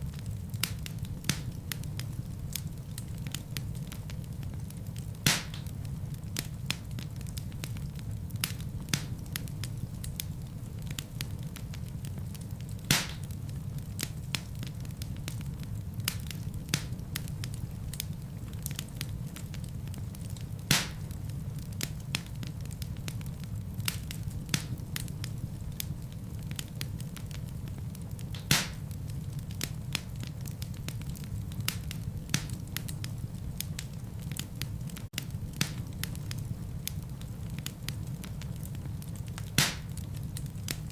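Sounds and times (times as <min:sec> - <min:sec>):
fire rumbling: 0:00.0 - 0:40.9
logs crackling and popping: 0:00.0 - 0:40.9.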